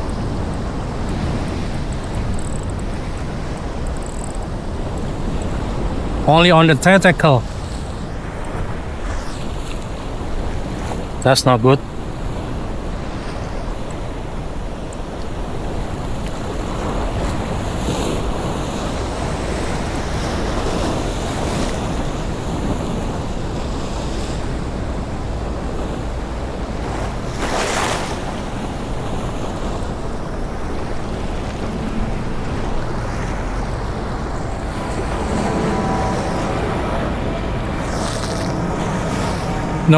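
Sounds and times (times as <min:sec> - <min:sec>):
sea waves washing against rocks: 0:00.0 - 0:39.9
wind buffeting microphone: 0:00.0 - 0:39.9.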